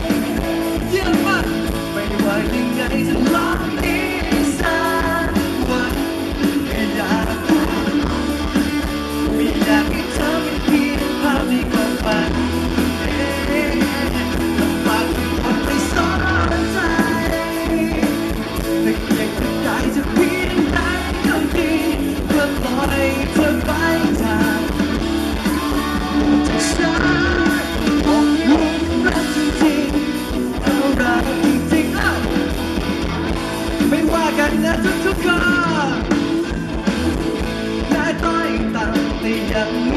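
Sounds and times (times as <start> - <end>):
man singing: 0.0 - 32.8, 33.6 - 36.9, 37.7 - 39.9
drum kit: 0.0 - 39.9
electric guitar: 0.0 - 39.9.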